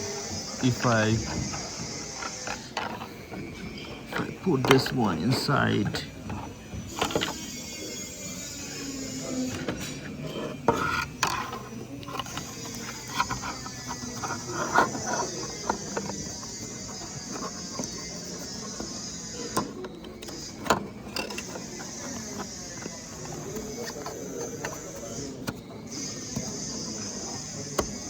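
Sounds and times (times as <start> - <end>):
small parts clicking and scraping: 0.0 - 28.0.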